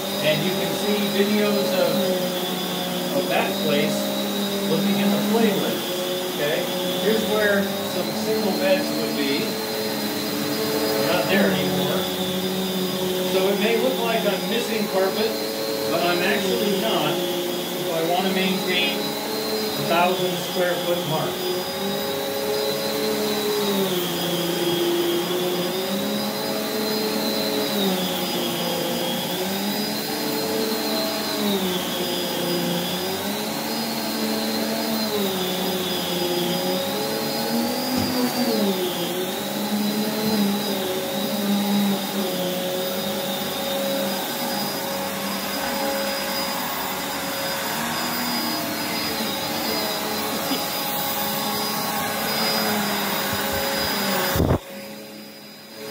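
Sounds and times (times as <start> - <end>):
vacuum cleaner motor whine: 0.0 - 55.9.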